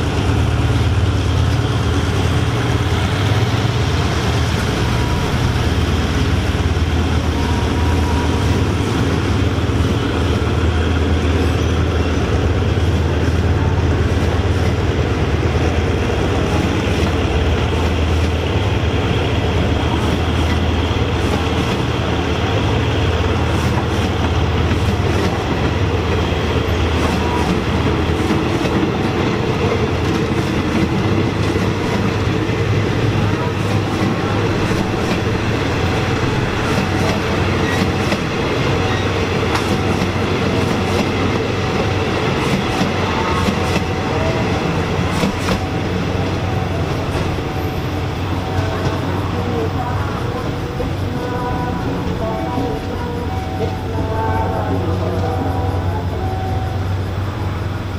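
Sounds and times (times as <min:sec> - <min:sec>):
train low rumble: 0:00.0 - 0:57.9.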